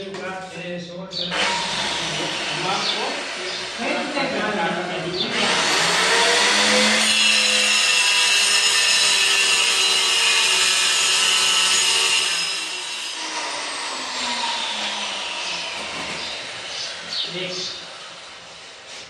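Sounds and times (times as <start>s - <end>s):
stone cutter grinding whine: 1.3s - 19.0s.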